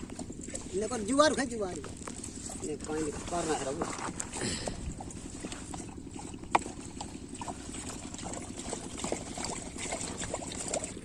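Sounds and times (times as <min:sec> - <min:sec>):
water pouring and trickling: 0:00.0 - 0:11.0.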